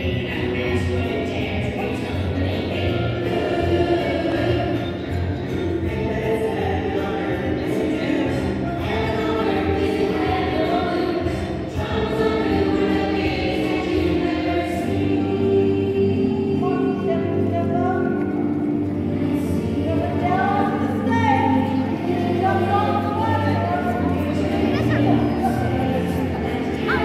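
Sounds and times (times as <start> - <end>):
chorus singing: 0.0 - 27.0.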